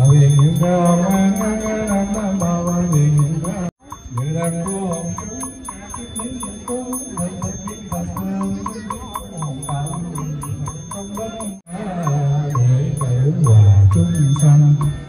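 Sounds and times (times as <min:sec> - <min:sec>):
person chanting: 0:00.0 - 0:15.0
steady tapped beat: 0:00.0 - 0:15.0.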